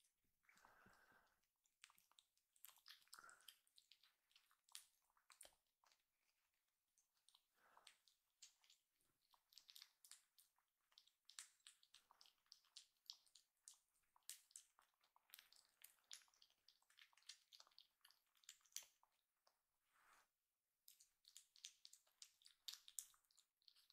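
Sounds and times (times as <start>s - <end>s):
kitten licking and lip smacking: 0.0s - 20.1s, 20.8s - 23.9s.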